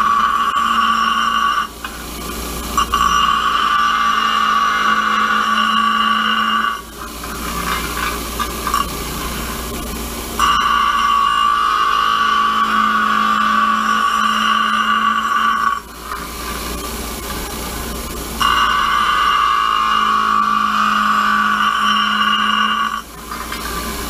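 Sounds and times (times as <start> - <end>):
grinder motor hum: 0.0 - 24.0
metal grinding on grinder wheel: 0.0 - 24.0.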